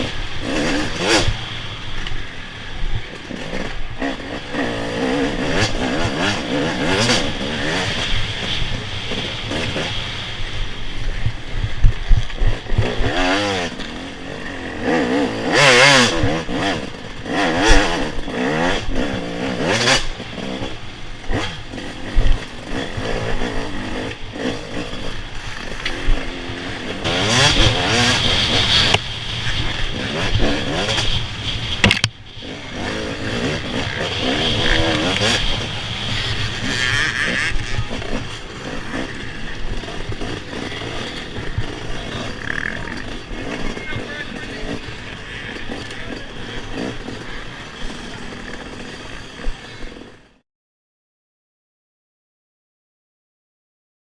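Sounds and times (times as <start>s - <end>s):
bike rattling and knocking: 0.0s - 50.1s
dirt bike engine revving: 0.0s - 50.4s.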